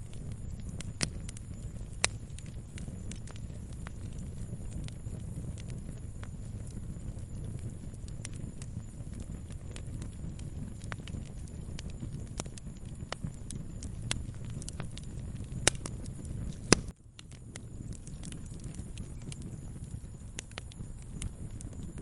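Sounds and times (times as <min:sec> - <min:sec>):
loud fire pops: 0:00.0 - 0:22.0
wood fire crackling: 0:00.0 - 0:22.0.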